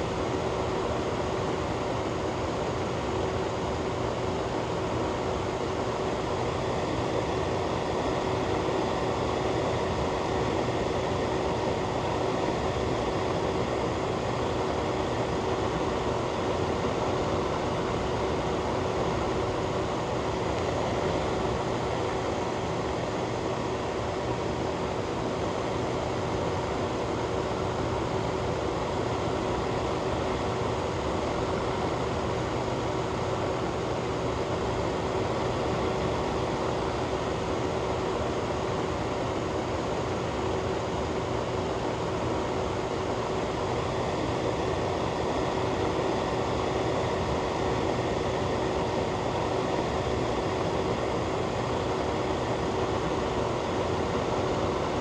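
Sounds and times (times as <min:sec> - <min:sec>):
ventilation fan running: 0:00.0 - 0:55.0.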